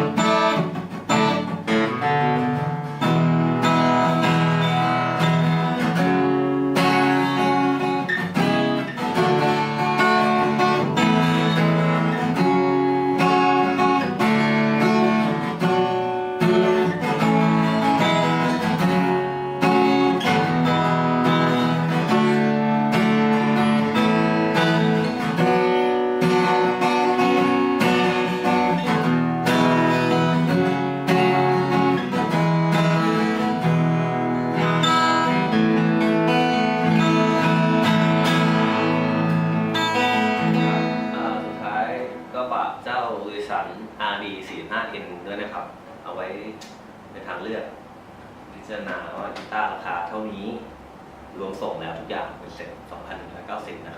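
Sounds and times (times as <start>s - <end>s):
acoustic guitar playing: 0.0s - 48.5s.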